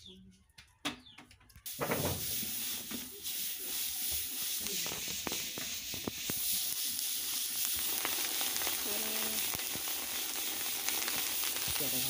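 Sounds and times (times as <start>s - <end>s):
sharp crackles: 1.6s - 12.0s
rice sizzling in hot sand: 1.7s - 12.0s.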